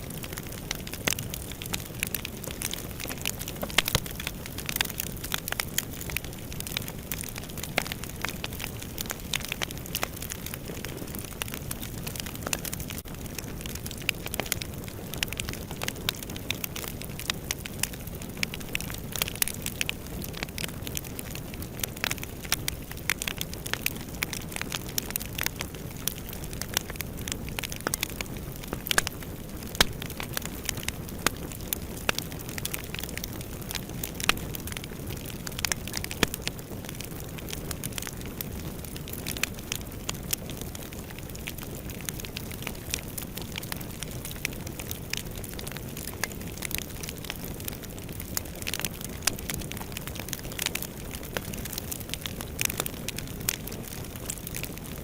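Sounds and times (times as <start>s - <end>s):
fire burning in fireplace: 0.0s - 55.0s
fire crackles and pops: 0.0s - 55.0s.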